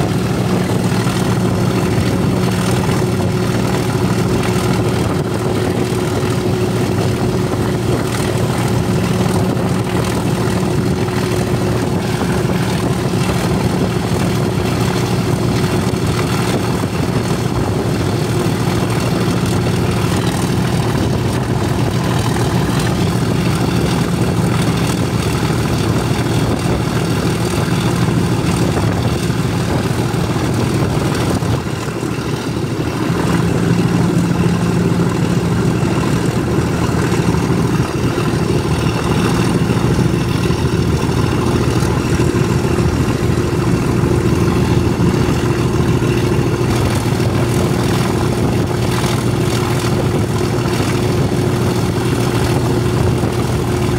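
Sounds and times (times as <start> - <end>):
diesel locomotive engine under power: 0.0 - 53.9
train running noise: 0.0 - 53.9
wind: 0.0 - 53.9.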